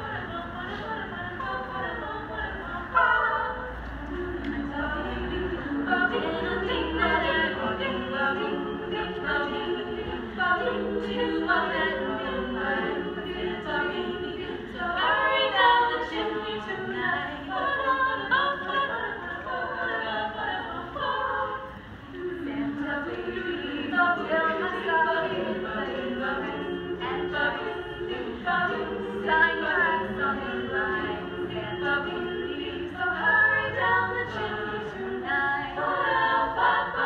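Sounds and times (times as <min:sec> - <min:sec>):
women singing a cappella: 0:00.0 - 0:37.0.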